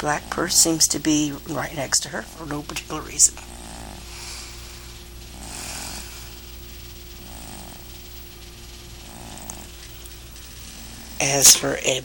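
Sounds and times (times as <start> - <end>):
cat snoring: 0.0 - 11.6.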